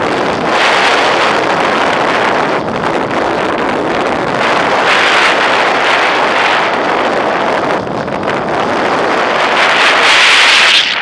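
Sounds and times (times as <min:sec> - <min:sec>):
airflow rushing over microphone: 0:00.0 - 0:11.0.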